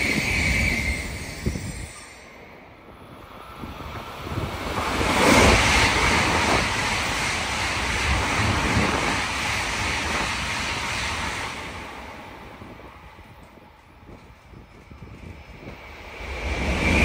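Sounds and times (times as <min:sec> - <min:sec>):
high-speed train rushing past: 0:00.0 - 0:17.0.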